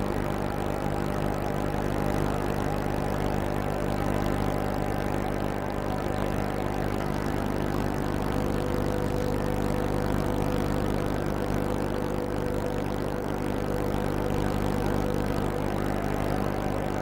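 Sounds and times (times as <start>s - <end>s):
thin steady whine: 0.0s - 17.0s.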